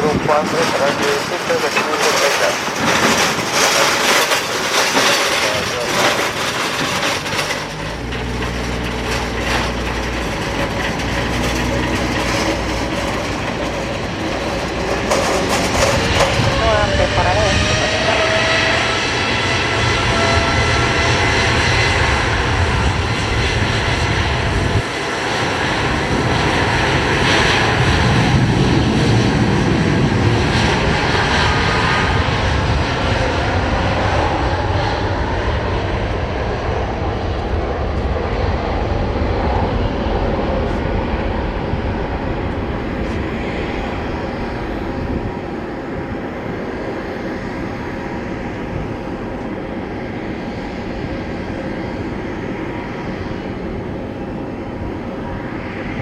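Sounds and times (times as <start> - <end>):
jet engines passing with whine: 0.0 - 56.0.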